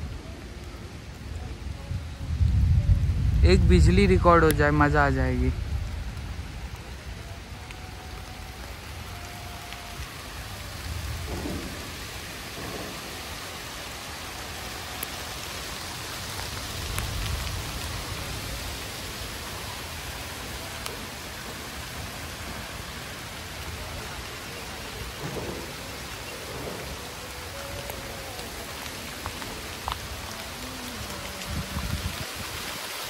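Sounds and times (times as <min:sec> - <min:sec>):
low rumbles: 0:00.0 - 0:09.1, 0:09.9 - 0:32.6
rain falling: 0:00.0 - 0:33.0.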